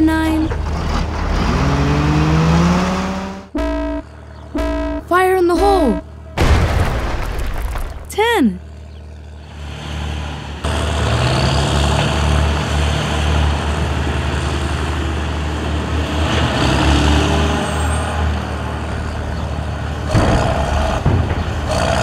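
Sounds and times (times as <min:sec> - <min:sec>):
heavy diesel engine droning: 0:00.0 - 0:06.5, 0:08.1 - 0:22.0.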